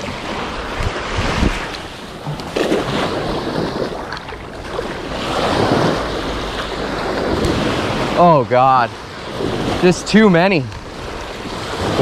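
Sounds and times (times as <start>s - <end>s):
small waves washing on beach: 0.0s - 12.0s
wind buffeting microphone: 0.0s - 12.0s.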